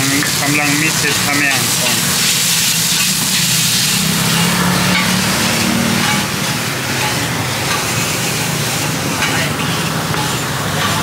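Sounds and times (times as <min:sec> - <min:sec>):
noodles sizzling on a griddle: 0:00.0 - 0:11.0.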